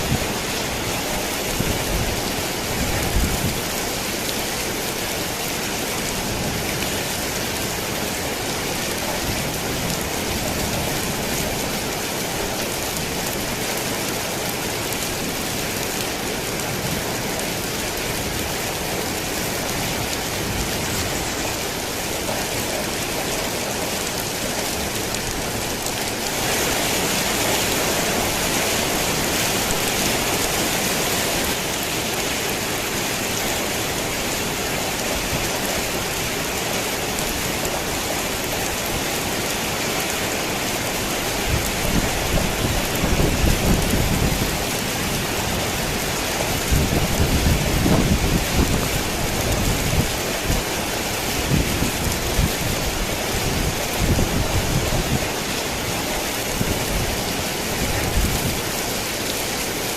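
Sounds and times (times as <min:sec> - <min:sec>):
rain on a tin roof: 0:00.0 - 0:59.9.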